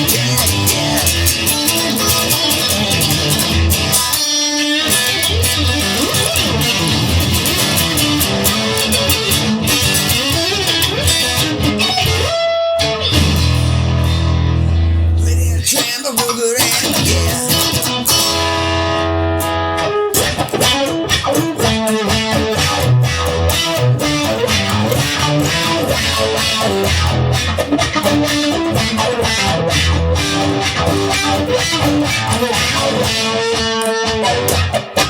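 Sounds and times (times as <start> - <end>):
bass guitar line: 0.0 - 15.8, 16.4 - 35.0
electric guitar: 0.0 - 35.0.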